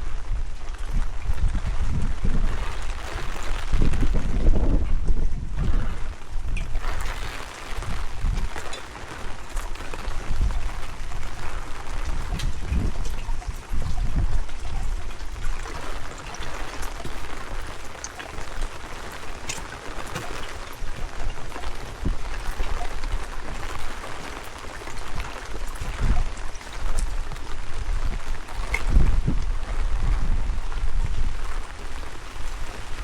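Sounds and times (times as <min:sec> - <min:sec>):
steady rain: 0:00.0 - 0:33.0
wind buffeting microphone: 0:00.0 - 0:33.0.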